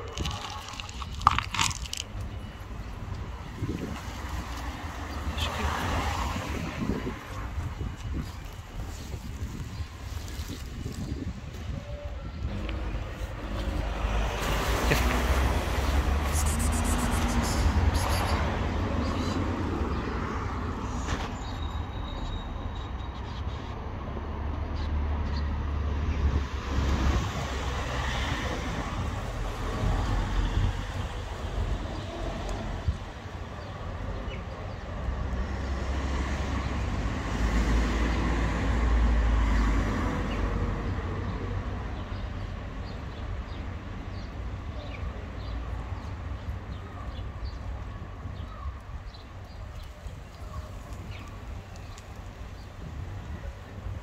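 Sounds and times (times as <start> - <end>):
street traffic rumble: 0.0 - 54.0
vehicles passing: 0.0 - 54.0.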